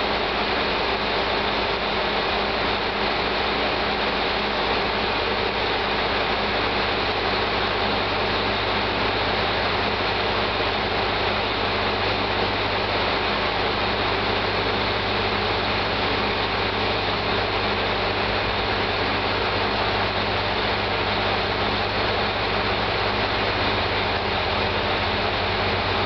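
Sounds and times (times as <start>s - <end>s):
constant hiss: 0.0s - 26.0s
diesel engine idling: 0.0s - 26.0s.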